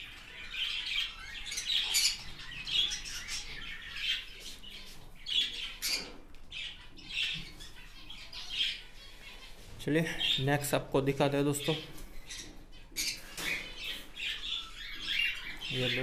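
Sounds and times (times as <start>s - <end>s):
parrots squawking and chirping: 0.0s - 10.7s, 11.6s - 16.0s.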